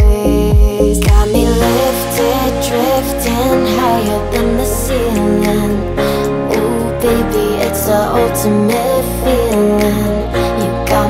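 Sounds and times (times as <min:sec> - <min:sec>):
deep house music: 0:00.0 - 0:11.0
sung vocal melody: 0:00.0 - 0:11.0.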